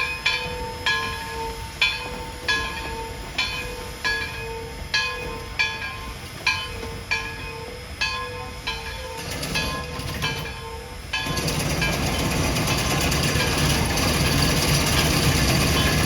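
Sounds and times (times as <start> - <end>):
low rumble of train: 0.0 - 16.0
steam locomotive bell ringing: 0.0 - 16.0.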